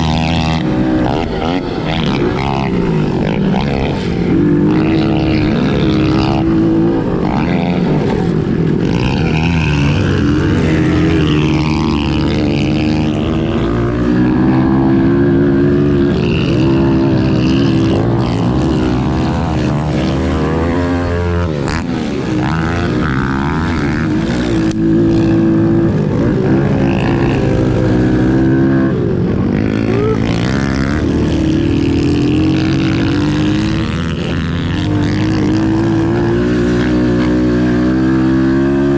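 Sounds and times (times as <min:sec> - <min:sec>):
pit bike engines revving: 0:00.0 - 0:38.9.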